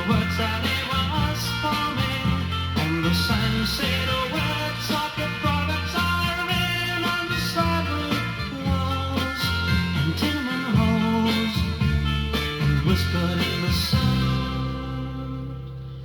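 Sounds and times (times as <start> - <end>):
rock band playing instrumental: 0.0 - 16.0.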